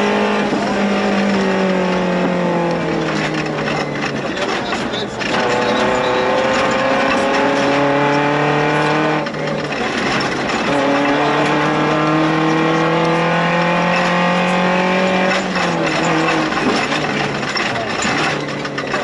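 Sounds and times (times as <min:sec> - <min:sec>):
car engine pulling under load: 0:00.0 - 0:19.0.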